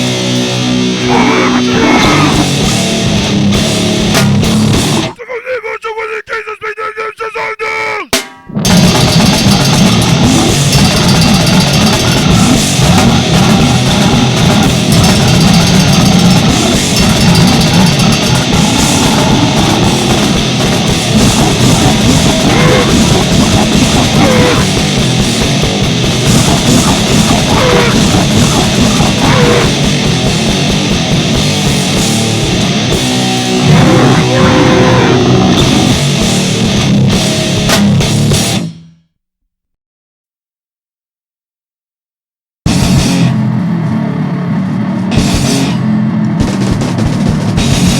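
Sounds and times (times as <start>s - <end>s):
heavy rock music: 0.0s - 6.2s, 7.5s - 38.8s, 42.7s - 47.9s.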